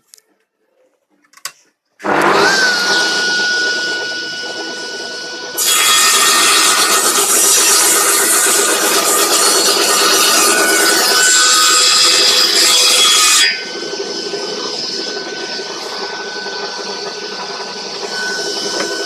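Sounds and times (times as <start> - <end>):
saw blade cutting timber: 2.0 - 19.0
table saw motor whine: 2.0 - 19.0.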